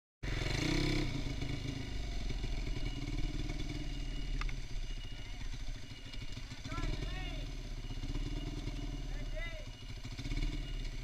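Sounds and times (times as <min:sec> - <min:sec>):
motorcycle engine running: 0:00.2 - 0:11.0.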